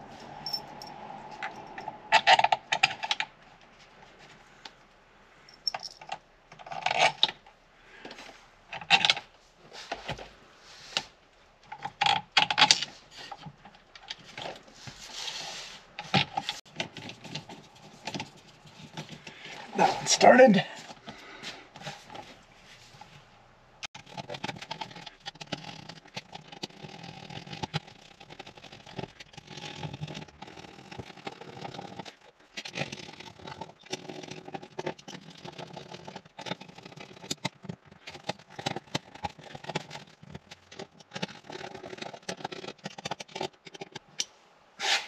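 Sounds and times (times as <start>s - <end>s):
hands rustling plastic parts: 5.5s - 23.3s, 23.9s - 45.0s.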